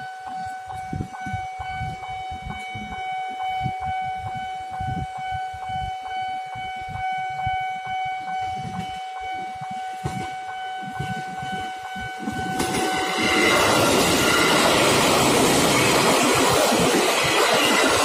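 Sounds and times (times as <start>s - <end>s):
level crossing warning alarm: 0.0s - 18.0s.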